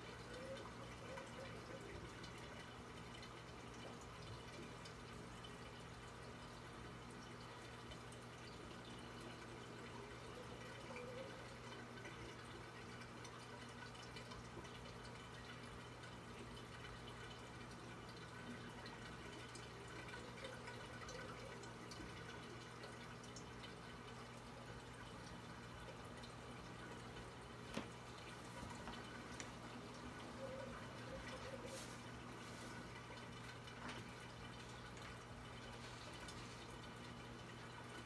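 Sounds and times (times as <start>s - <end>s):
water trickling and dripping: 0.0s - 38.0s.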